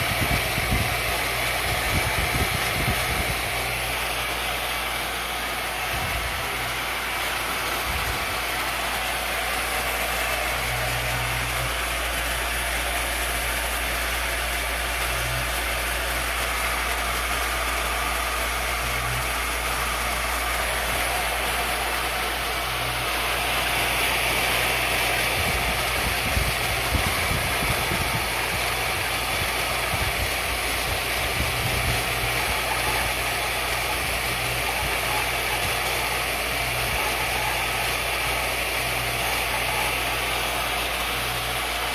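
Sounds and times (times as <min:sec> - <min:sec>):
milling machine spindle whir: 0:00.0 - 0:41.9.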